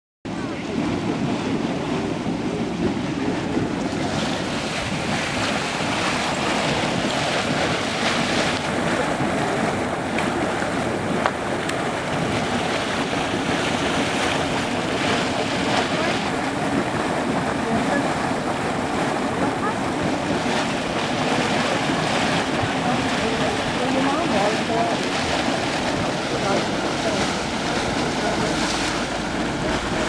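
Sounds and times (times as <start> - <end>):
bubbling mud pool: 0.3 - 30.0.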